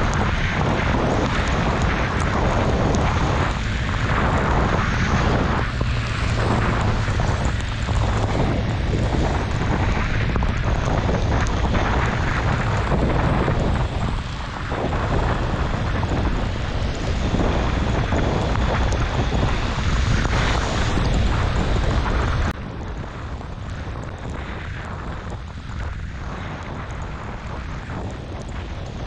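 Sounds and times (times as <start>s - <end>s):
motorcycle engine running: 0.0s - 29.0s
wind rush over microphone: 0.0s - 29.0s.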